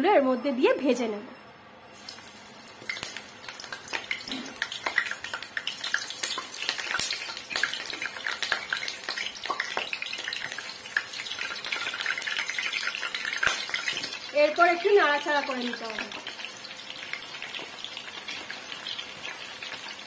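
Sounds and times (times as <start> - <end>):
vegetables sizzling in hot oil: 1.9 - 20.0.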